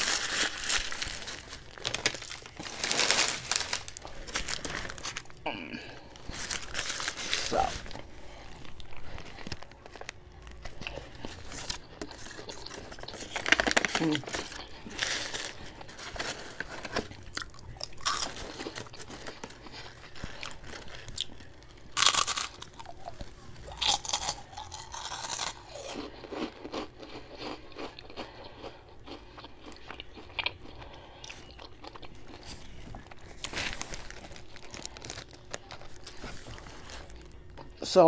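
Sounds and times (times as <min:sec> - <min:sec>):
person chewing sandwich: 0:00.0 - 0:37.8.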